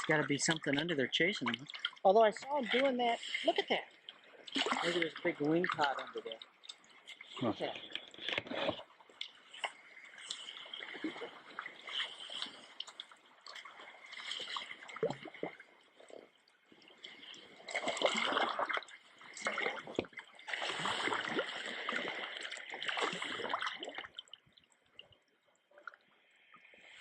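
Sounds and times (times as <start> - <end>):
sea water splashing: 0.0 - 27.0.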